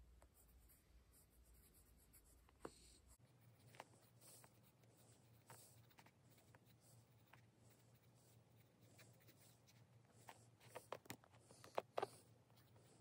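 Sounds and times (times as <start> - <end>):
pen scratching on paper: 0.4 - 13.0.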